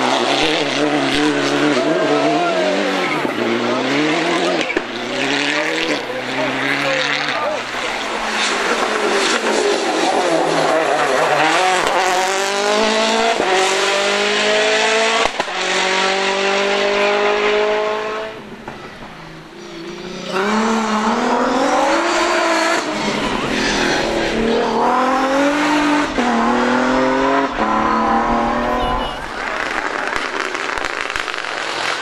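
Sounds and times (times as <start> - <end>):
rally car engine at full throttle: 0.0 - 32.0.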